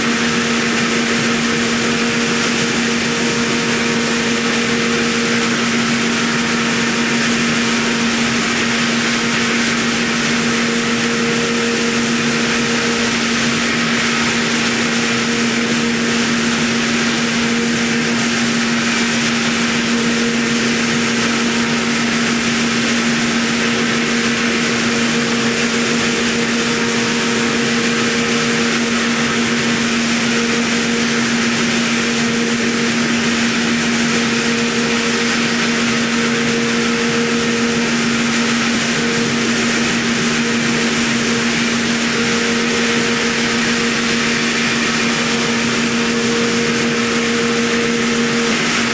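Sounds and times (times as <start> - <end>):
milling machine cutting metal: 0.0 - 48.9.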